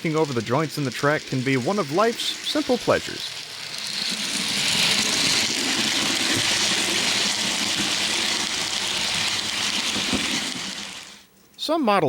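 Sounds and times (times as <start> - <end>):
model train motor whirring: 0.0 - 11.2
wheels rolling on rails: 0.0 - 11.2.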